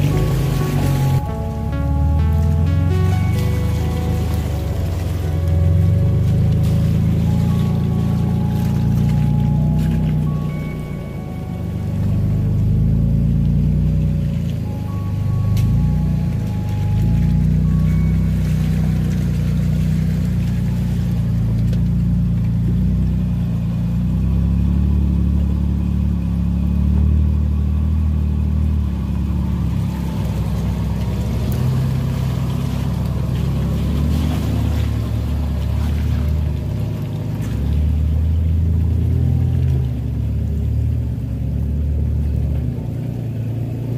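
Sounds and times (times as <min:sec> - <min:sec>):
pickup truck engines running: 0:00.0 - 0:43.9.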